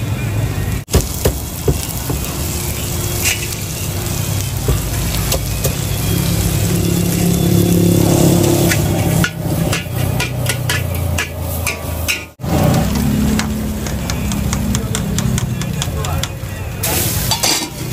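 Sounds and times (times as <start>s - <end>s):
frying sizzle: 0.1s - 17.9s.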